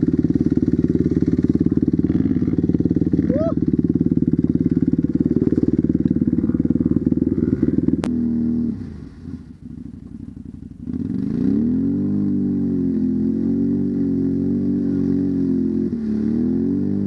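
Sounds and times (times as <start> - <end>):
dirt bike engine revving and idling: 0.0 - 17.0.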